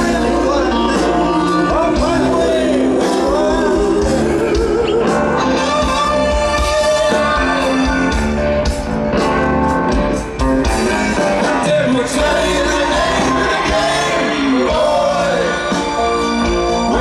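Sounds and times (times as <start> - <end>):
person singing: 0.0 - 8.2, 10.8 - 17.0
live rock band playing: 0.0 - 17.0.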